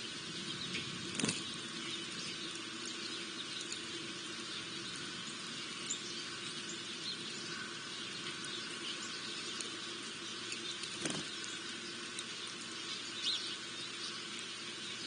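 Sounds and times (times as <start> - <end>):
background hiss and low hum: 0.0 - 15.0
small birds chirping: 0.0 - 15.0.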